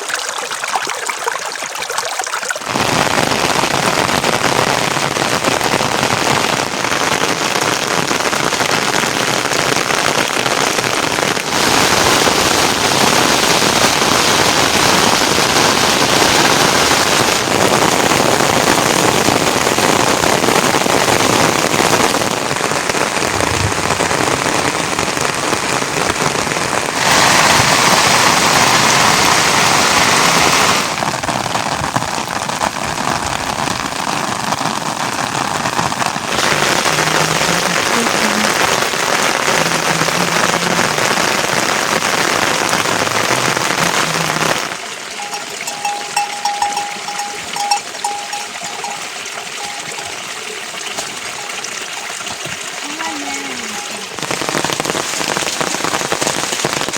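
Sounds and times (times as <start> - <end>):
heavy rain hissing: 2.7 - 56.9.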